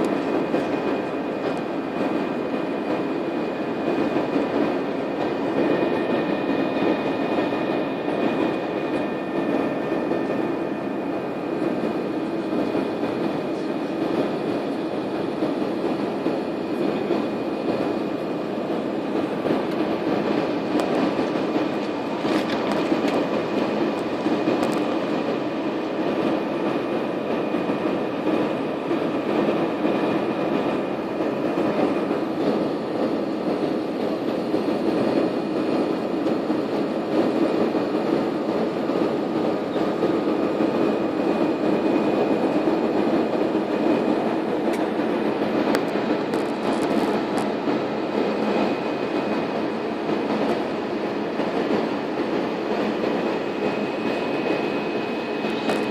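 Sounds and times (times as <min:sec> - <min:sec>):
airliner cabin drone: 0:00.0 - 0:55.9.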